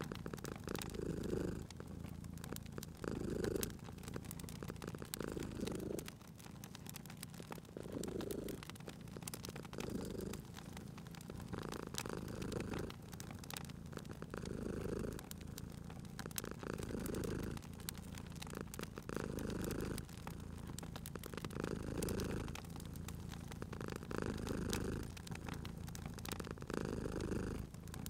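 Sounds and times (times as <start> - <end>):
cat purring: 0.0 - 28.0
wood fire crackling: 0.0 - 28.0.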